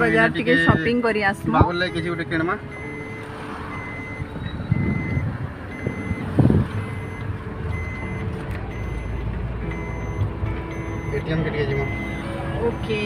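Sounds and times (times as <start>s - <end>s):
traffic and engine rumble: 0.0s - 13.0s
vehicle warning beeper: 0.0s - 13.0s.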